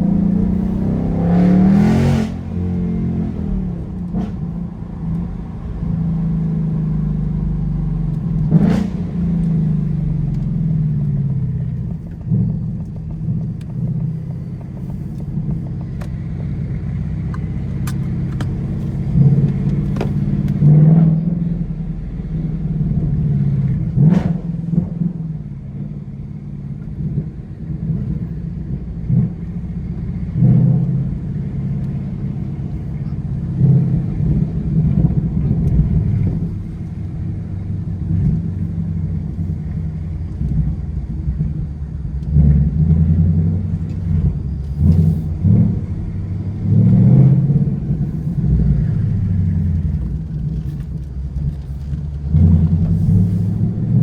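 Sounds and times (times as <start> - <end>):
car engine revving while driving: 0.0 - 54.0.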